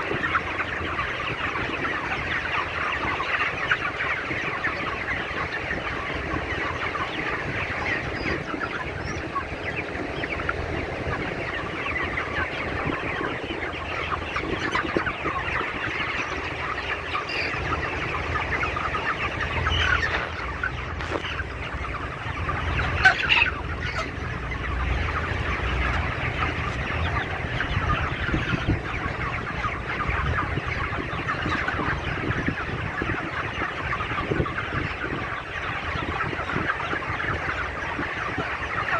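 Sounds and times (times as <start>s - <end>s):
chickens clucking and cheeping: 0.0s - 38.9s
loud chicken call: 0.0s - 38.9s.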